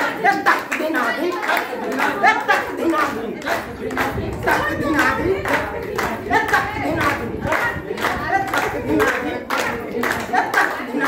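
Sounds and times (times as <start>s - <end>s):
group clapping in rhythm: 0.0s - 11.0s
group singing and chanting: 0.0s - 11.0s.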